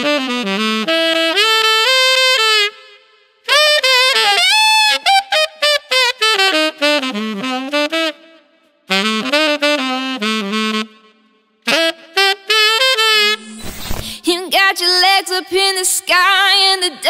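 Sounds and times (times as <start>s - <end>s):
tenor saxophone playing: 0.0s - 13.7s.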